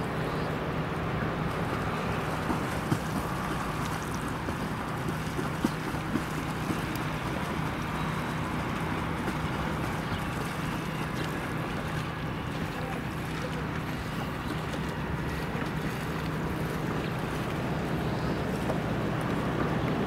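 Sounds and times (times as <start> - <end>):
low even hum: 0.0 - 20.0
water rushing: 0.0 - 20.0
wind: 0.0 - 20.0.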